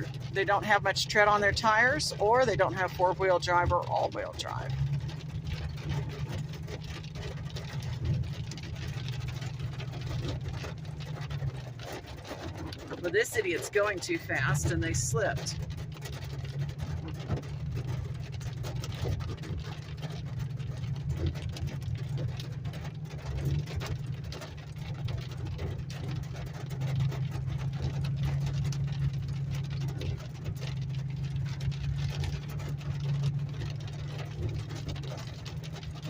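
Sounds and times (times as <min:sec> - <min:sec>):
car engine and road drone: 0:00.0 - 0:36.0.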